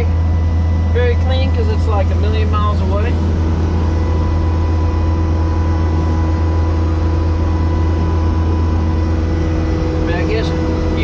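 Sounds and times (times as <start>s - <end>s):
skid steer engine at full throttle: 0.0s - 11.0s.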